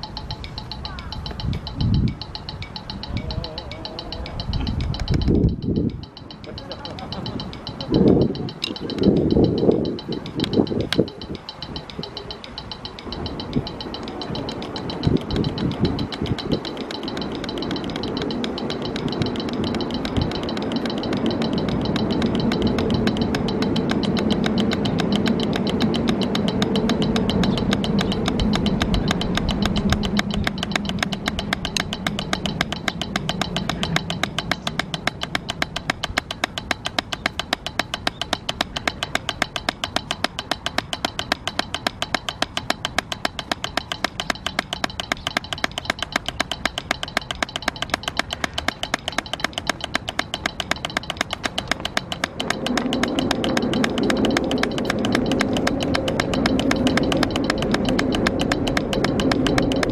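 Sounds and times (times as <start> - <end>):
drumsticks on rubber practice pad: 0.0 - 59.9.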